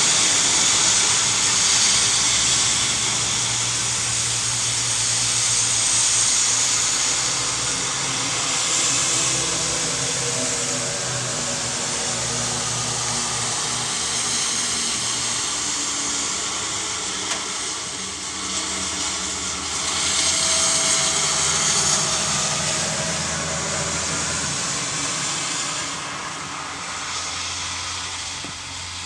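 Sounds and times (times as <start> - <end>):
tyre hiss on wet road: 0.0 - 29.0.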